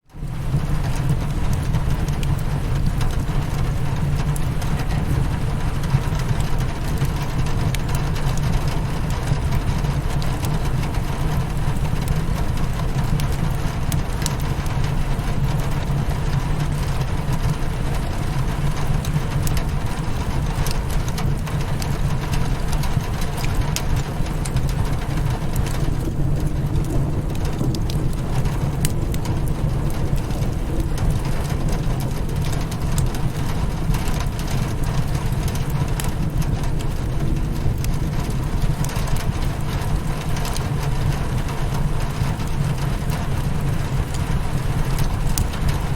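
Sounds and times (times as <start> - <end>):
rain on a window: 0.0 - 45.9
wood fire crackling: 0.1 - 45.9
deep low rumble: 0.2 - 17.9, 20.9 - 45.9.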